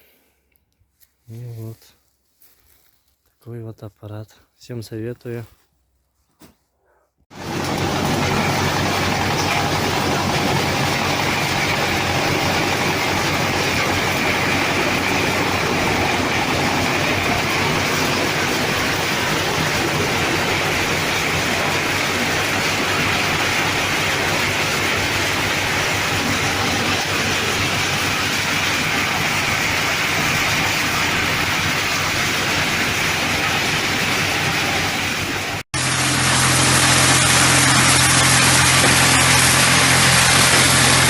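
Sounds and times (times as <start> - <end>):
loud machine running: 7.3 - 41.0
machine engine humming: 7.3 - 41.0.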